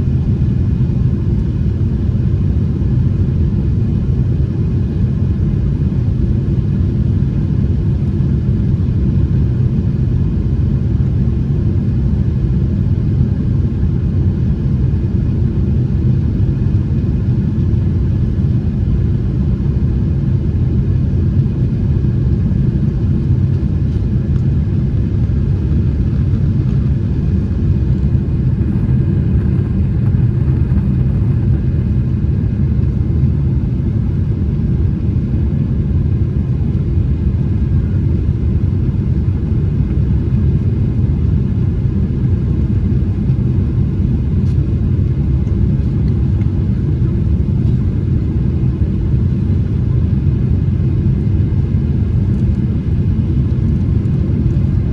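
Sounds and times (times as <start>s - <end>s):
jet engine rumble in cabin: 0.0s - 54.9s.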